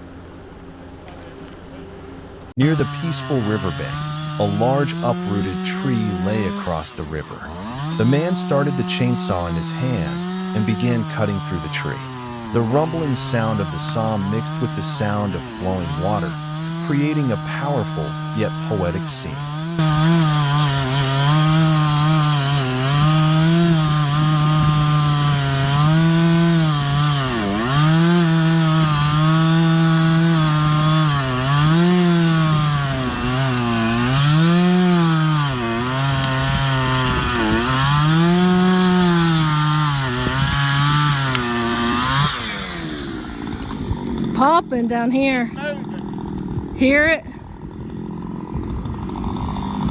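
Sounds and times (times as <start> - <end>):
chainsaw cutting log: 2.6 - 49.9.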